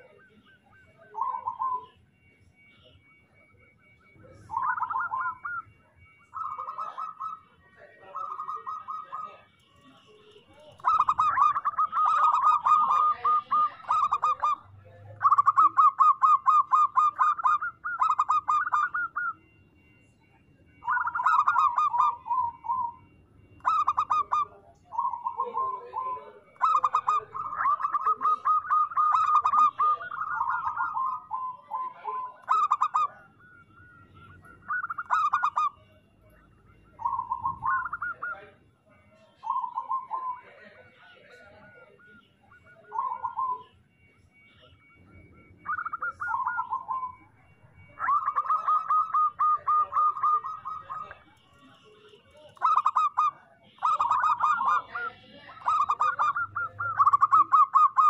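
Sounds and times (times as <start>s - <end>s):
dove cooing: 0.0s - 20.0s, 20.6s - 58.0s.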